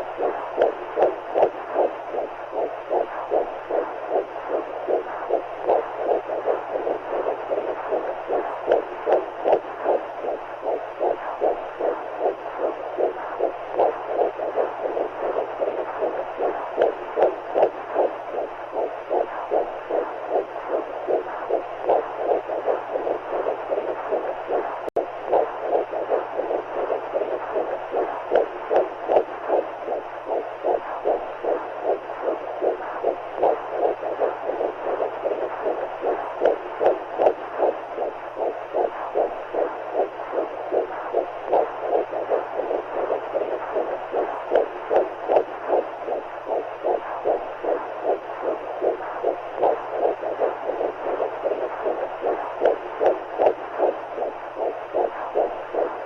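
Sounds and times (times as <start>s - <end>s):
constant whooshing noise: 0.0s - 56.0s
rhythmic heartbeat: 0.0s - 56.0s.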